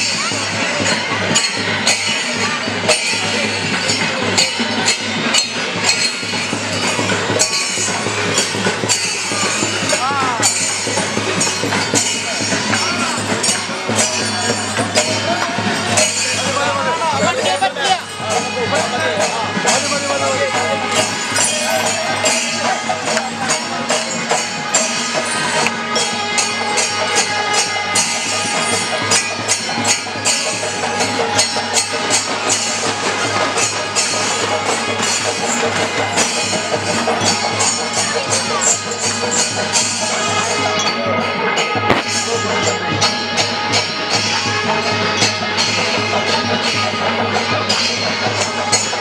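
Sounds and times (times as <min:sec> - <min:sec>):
fast jingling percussion: 0:00.0 - 0:49.0.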